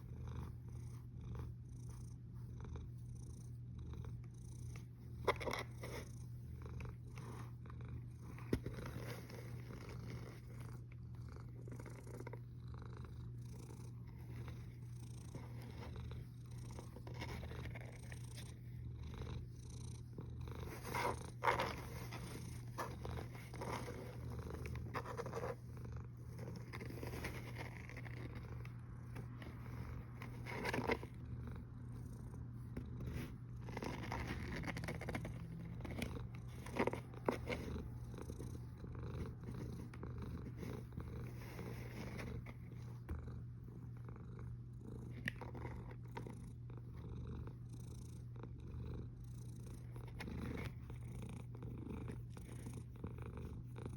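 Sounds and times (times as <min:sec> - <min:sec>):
cat purring and snoring: 0:00.0 - 0:53.9.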